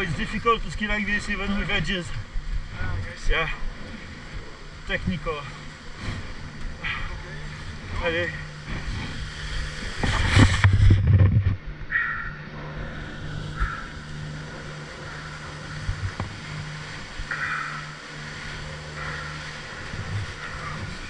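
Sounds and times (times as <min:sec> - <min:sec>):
chairlift machinery humming: 0:00.0 - 0:21.0.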